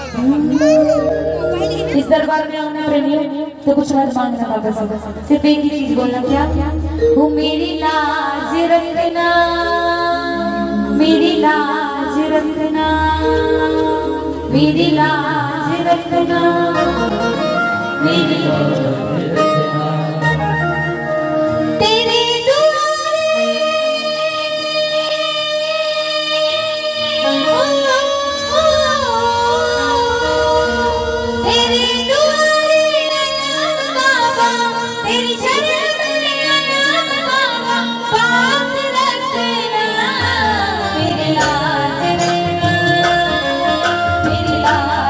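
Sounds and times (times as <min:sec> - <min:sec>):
low instrumental accompaniment: 0:00.0 - 0:03.8, 0:04.4 - 0:45.0
woman singing through a microphone: 0:00.0 - 0:20.5, 0:21.6 - 0:45.0.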